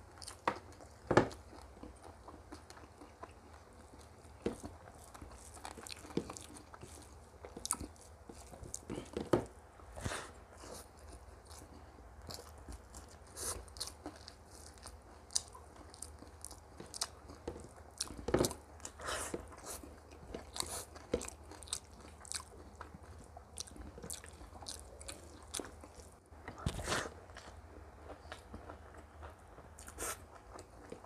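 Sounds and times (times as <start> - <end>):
chewing food crunches: 0.1 - 9.3, 10.7 - 31.0.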